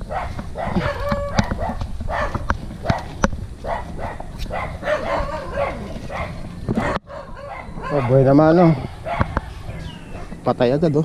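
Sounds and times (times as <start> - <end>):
dog barking: 0.1 - 8.4, 9.0 - 10.4.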